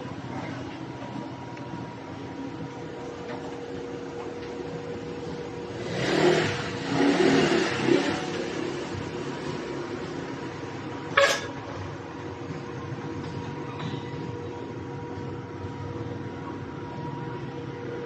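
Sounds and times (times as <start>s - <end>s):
diesel engine idling and revving: 0.0s - 18.0s.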